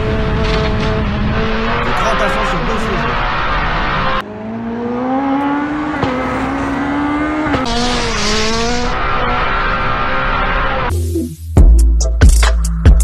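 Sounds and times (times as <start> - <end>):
car engine accelerating: 0.0 - 10.9.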